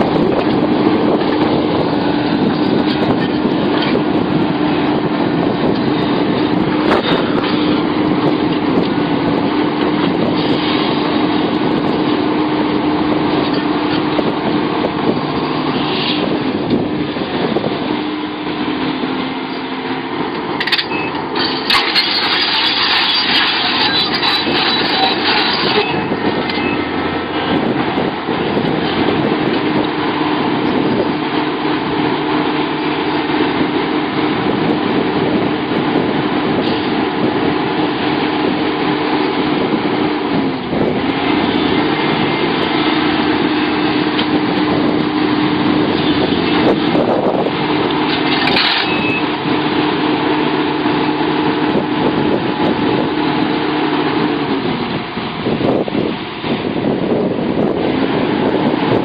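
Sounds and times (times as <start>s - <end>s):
excavator diesel engine running: 0.0s - 59.0s
steady whine: 0.0s - 59.0s.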